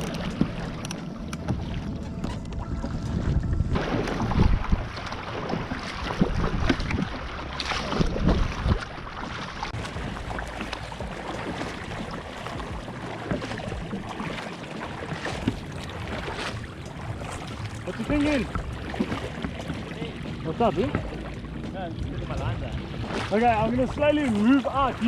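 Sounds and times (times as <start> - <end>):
water sloshing against hull: 0.0 - 25.0
wind on microphone: 0.0 - 25.0.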